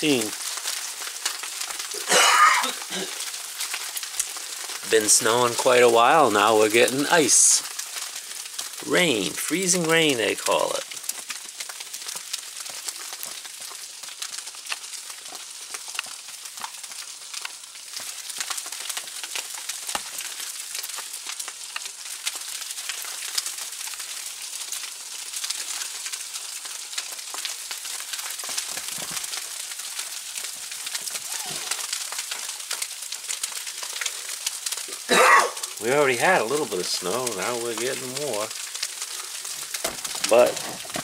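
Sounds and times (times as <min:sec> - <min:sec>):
freezing rain crackling on snow: 0:00.0 - 0:41.0.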